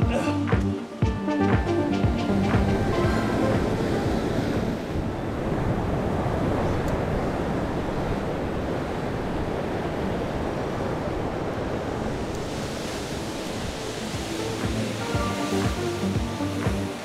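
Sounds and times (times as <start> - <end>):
ocean surf over rocks: 0.0 - 17.0
wind buffeting microphone: 2.6 - 16.8.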